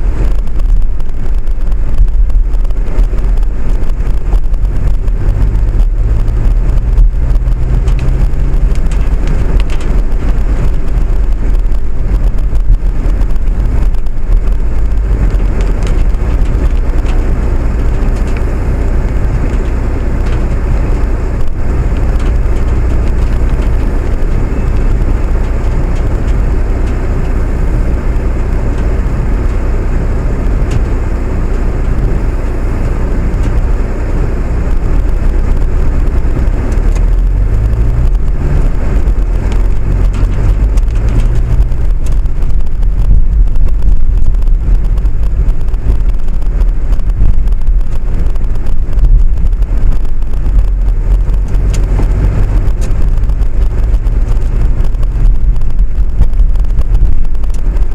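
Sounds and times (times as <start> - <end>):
low hum: 0.0 - 57.9
vehicle rumble and road noise: 0.0 - 57.9.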